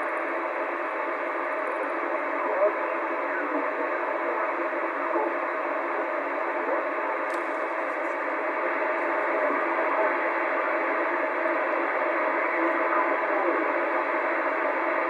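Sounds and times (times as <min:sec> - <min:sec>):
faint radio signal: 0:00.0 - 0:15.0
radio static hiss: 0:00.0 - 0:15.0.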